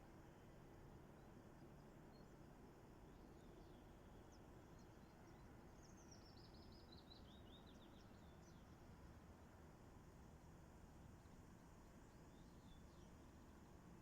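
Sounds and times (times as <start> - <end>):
low steady background hiss: 0.0 - 14.0.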